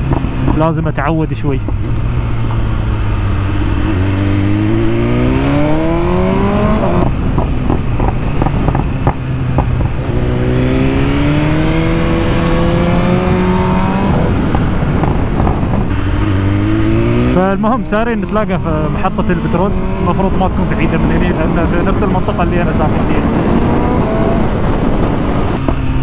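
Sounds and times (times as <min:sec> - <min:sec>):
motorcycle engine revving: 0:00.0 - 0:00.8, 0:01.6 - 0:26.0.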